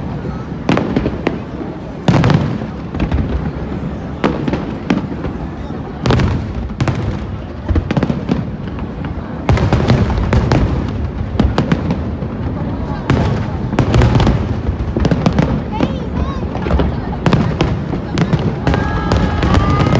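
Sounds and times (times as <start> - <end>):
crowd murmur: 0.0 - 19.9
fireworks bursting: 0.0 - 19.9.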